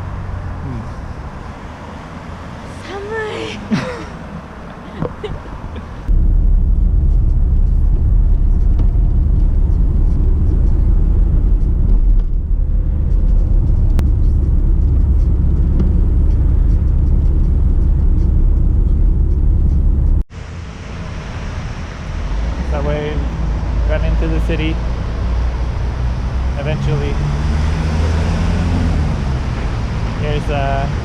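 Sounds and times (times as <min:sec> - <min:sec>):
car road rumble: 0:00.0 - 0:31.0.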